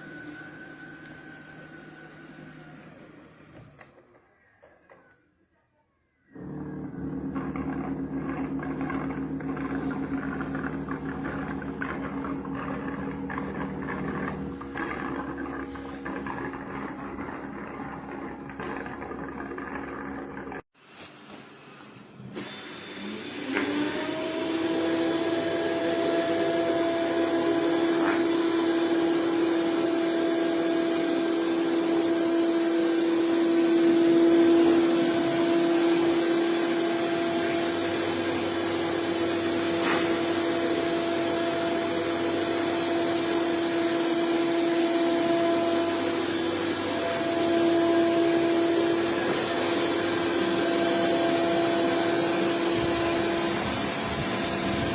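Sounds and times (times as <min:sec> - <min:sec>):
vacuum suction motor whine: 0:00.0 - 0:04.0, 0:06.3 - 0:20.7, 0:21.5 - 0:54.9.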